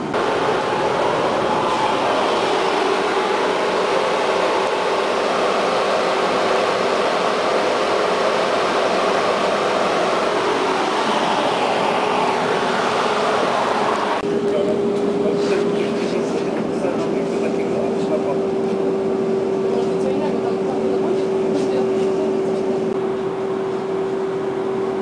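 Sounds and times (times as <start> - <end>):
tram running: 0.0 - 25.0.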